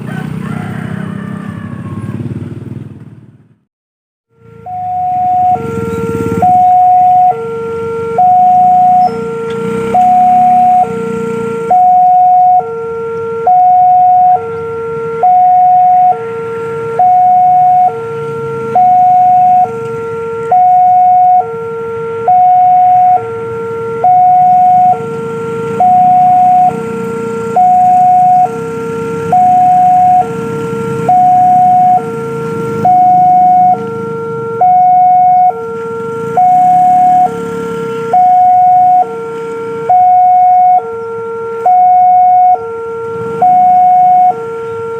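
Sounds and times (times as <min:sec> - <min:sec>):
level crossing alarm two tones: 0:04.4 - 0:39.2, 0:39.8 - 0:44.9.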